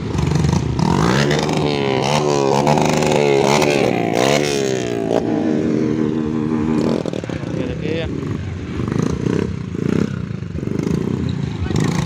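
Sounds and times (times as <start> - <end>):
small motorcycle engines revving: 0.0 - 12.0.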